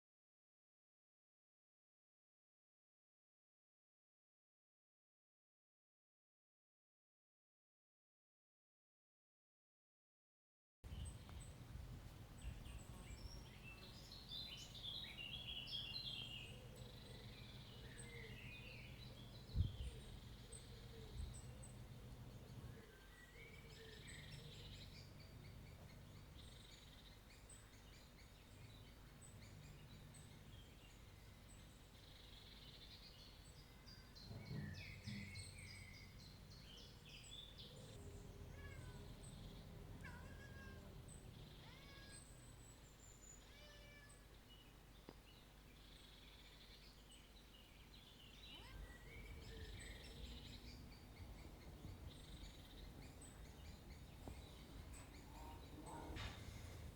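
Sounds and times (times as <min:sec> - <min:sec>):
small birds chirping: 0:10.9 - 0:56.9.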